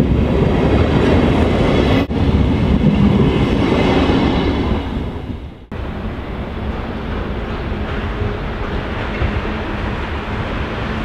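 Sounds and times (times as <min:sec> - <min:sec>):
train coaches rolling past: 0:00.0 - 0:11.0.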